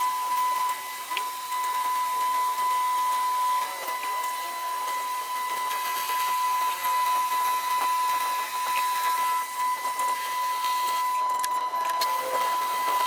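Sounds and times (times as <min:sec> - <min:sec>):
machine whining: 0:00.0 - 0:13.0.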